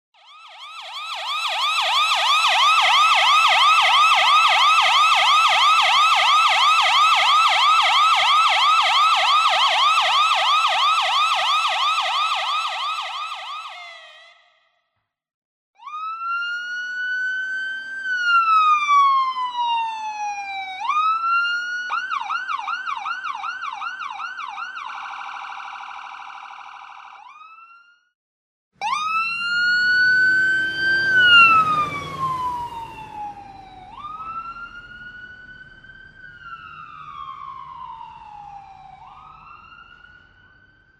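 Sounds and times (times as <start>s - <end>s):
ambulance siren: 0.1s - 14.8s, 15.8s - 28.2s, 28.8s - 40.9s.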